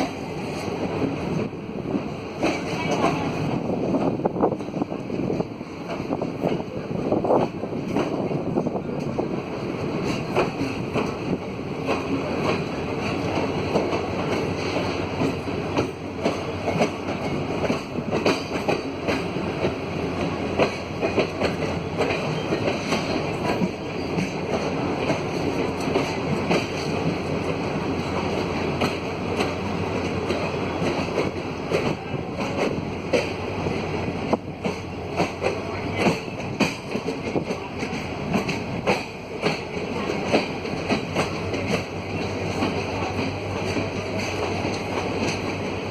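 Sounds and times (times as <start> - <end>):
freight train wagons rolling: 0.0 - 45.9
wheels clacking over rail joints: 2.2 - 45.9.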